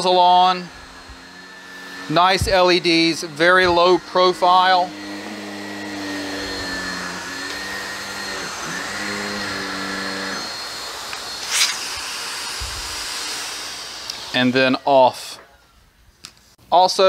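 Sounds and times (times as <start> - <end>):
vacuum cleaner whirring: 0.0 - 16.0.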